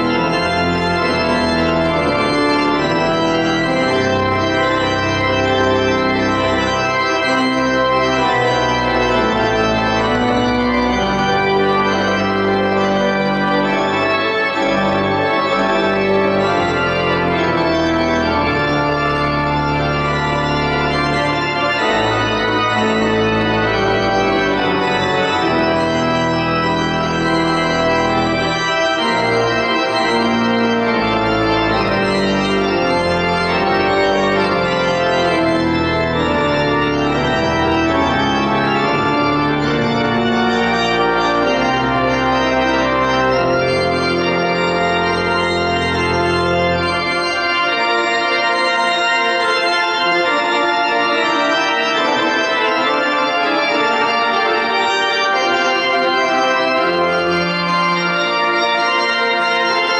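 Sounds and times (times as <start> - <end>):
church organ chords: 0.0 - 59.9.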